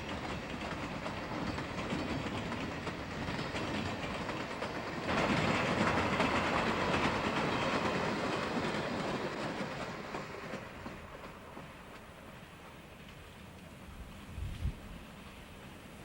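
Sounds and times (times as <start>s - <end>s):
train wheels clicking over rails: 0.0s - 16.0s.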